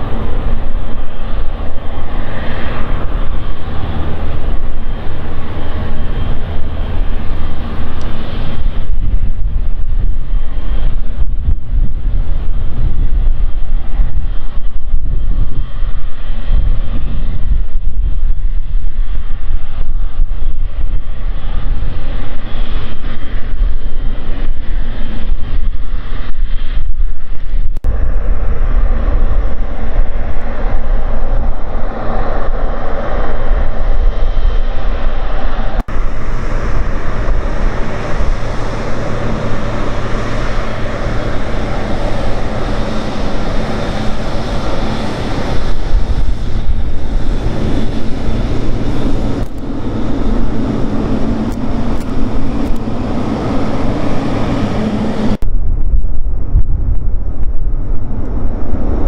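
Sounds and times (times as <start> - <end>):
jet engines rumbling at taxi power: 0.0 - 59.0
wind buffeting microphone: 0.0 - 59.0.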